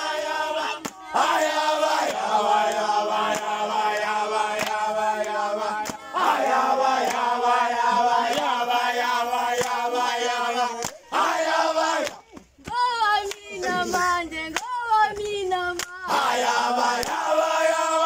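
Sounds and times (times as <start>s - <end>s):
group singing a chant: 0.0s - 12.4s, 13.0s - 14.3s, 15.5s - 18.0s
hand claps: 0.6s - 11.1s, 11.8s - 16.1s, 16.9s - 17.2s.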